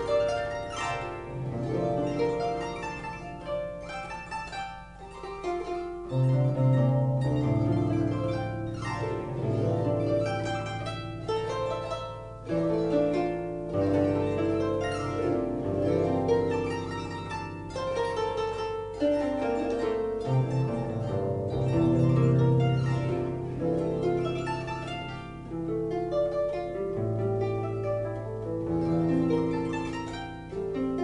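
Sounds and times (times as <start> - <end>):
plucked harp notes: 0.0 - 31.0.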